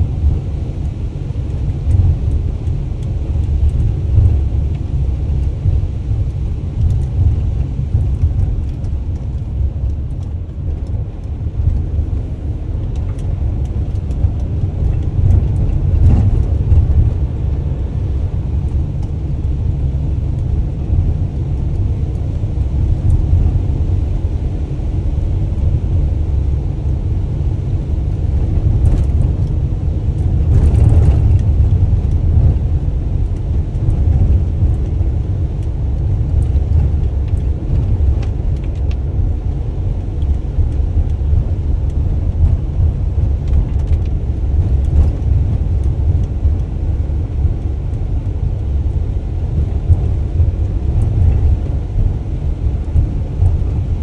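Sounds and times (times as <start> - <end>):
van engine and road rumble: 0.0 - 54.0.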